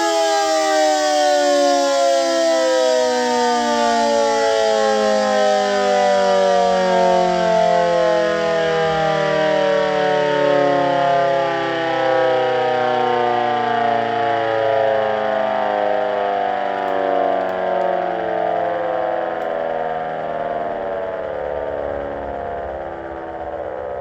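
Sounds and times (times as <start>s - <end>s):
warning siren sliding down: 0.0s - 24.0s.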